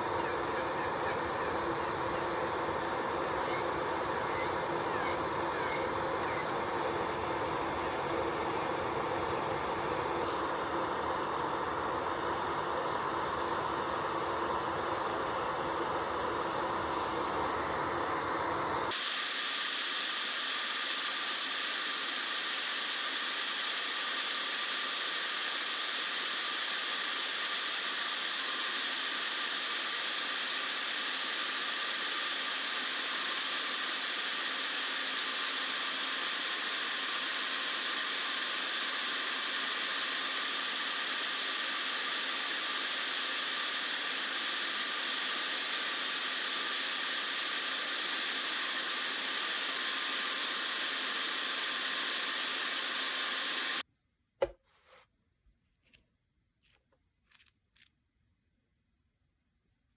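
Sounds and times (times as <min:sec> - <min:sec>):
electric nail drill hissing: 0:00.0 - 0:53.8.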